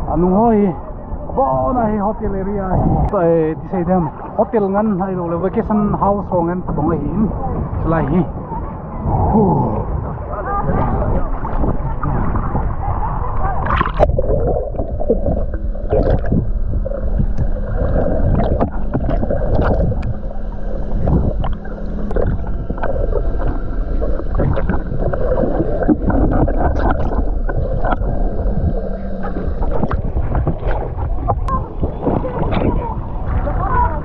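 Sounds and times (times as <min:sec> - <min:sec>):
faint steady hum: 0:00.0 - 0:34.0
underwater rumble of moving water: 0:00.0 - 0:34.0.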